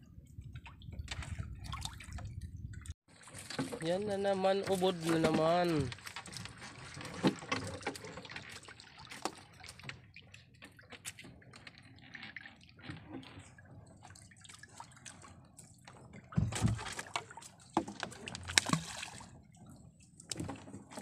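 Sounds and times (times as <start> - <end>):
water dripping and trickling: 0.2 - 20.6.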